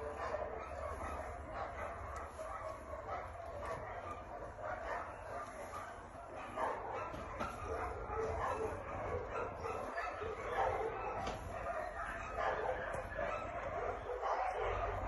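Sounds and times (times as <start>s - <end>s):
many dogs barking and yelping: 0.0s - 15.0s.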